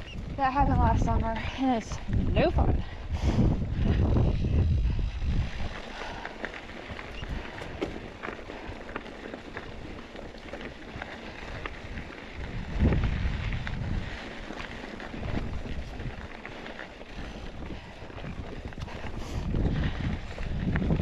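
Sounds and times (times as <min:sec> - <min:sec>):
bike clicks and rattles: 0:00.0 - 0:21.0
bike rolling on dirt trail: 0:00.0 - 0:21.0
wind buffeting microphone: 0:00.0 - 0:21.0.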